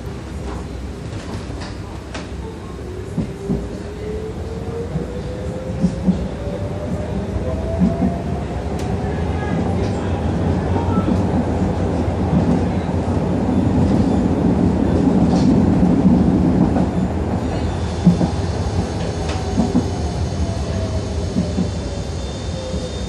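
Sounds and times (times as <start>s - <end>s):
tram wheels rumbling on rails: 0.0s - 23.0s.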